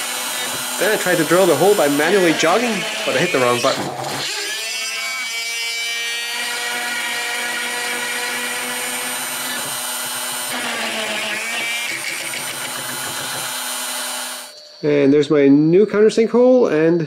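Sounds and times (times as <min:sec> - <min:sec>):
wood router cutting wood: 0:00.0 - 0:14.8.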